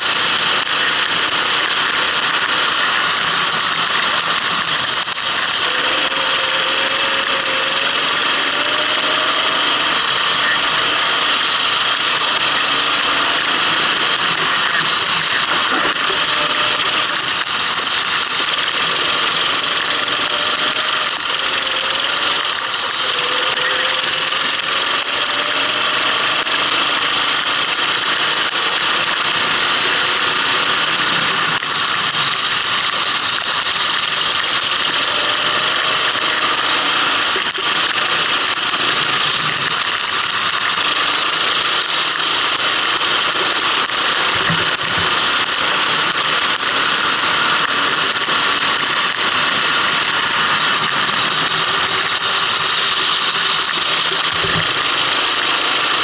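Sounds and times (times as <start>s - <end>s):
go-kart engine: 0.0s - 56.0s.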